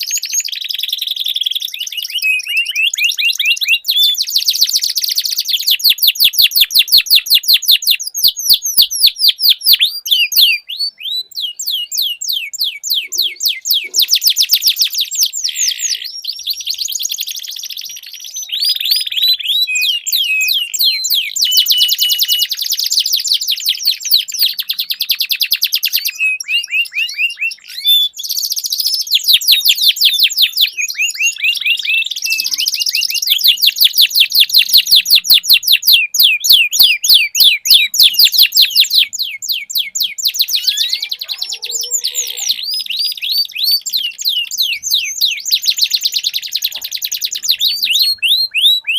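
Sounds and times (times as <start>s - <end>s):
canaries singing trills: 0.0s - 48.9s.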